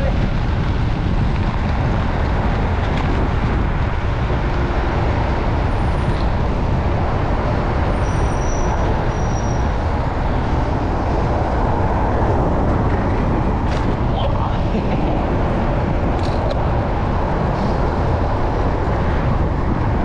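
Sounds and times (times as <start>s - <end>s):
city traffic noise: 0.0s - 20.0s
wind rushing over microphone: 0.0s - 20.0s.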